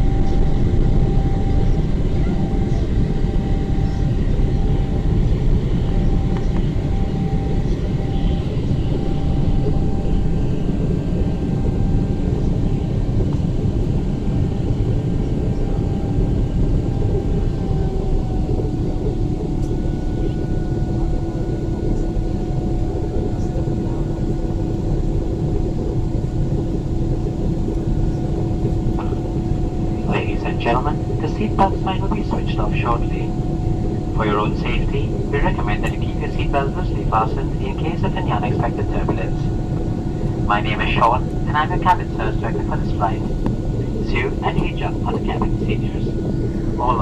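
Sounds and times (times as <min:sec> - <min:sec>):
jet airliner cabin noise: 0:00.0 - 0:47.0.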